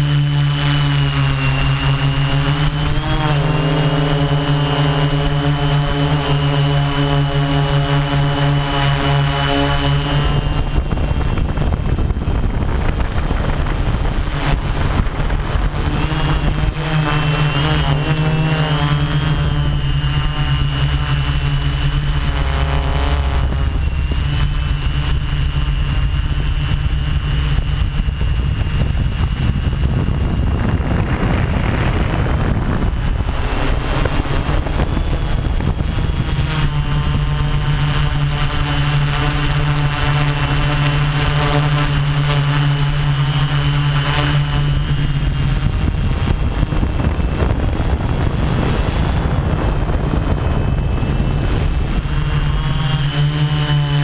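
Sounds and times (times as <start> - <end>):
drone motors whining: 0.0 - 54.0.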